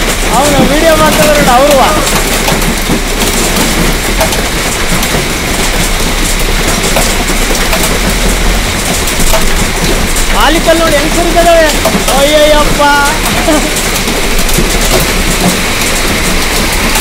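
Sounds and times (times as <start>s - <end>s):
hail and heavy rain pelting: 0.0s - 17.0s.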